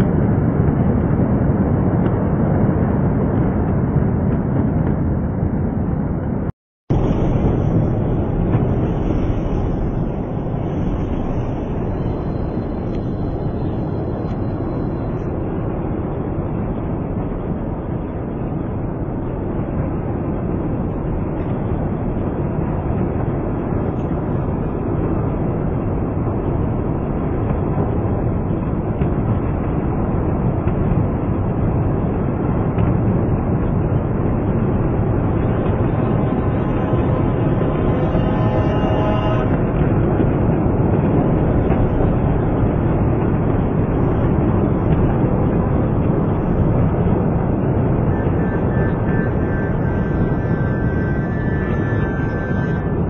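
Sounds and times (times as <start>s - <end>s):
deep rumble: 0.0s - 53.0s.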